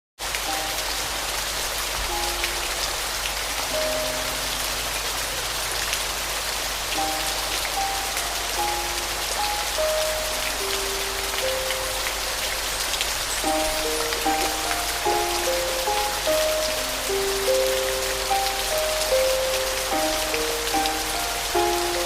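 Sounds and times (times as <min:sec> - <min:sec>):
slow soft piano melody: 0:00.2 - 0:22.0
steady rain: 0:00.2 - 0:22.0.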